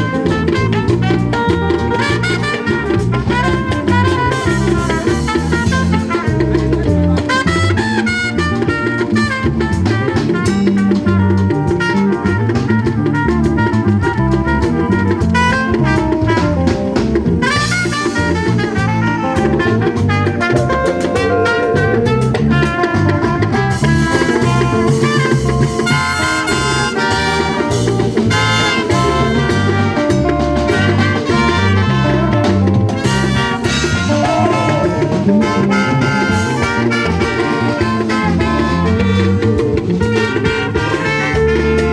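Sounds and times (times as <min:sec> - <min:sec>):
latin jazz dance music: 0:00.0 - 0:41.9.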